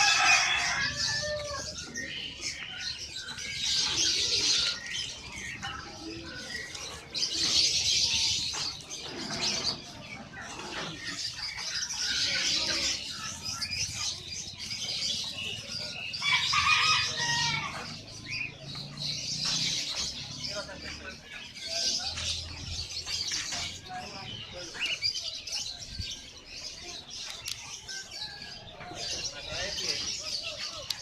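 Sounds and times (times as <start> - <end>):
birds chirping and twittering: 0.0 - 31.0.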